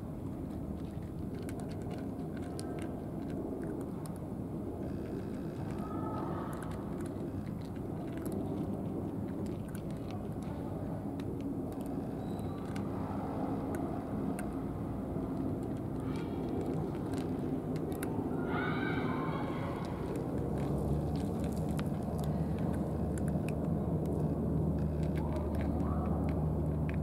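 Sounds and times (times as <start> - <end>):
cat crunching dry kibble: 0.0 - 18.7, 19.5 - 27.0
low outdoor rumble: 0.0 - 27.0.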